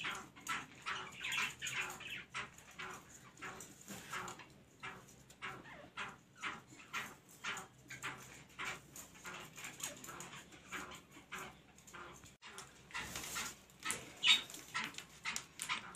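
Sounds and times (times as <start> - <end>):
birds giving short calls: 0.0 - 15.9.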